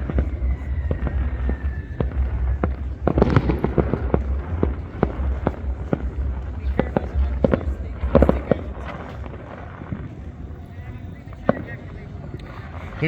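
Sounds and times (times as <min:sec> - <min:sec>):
firecracker crackling: 0:00.0 - 0:13.0
fireworks bangs and pops: 0:00.0 - 0:13.0.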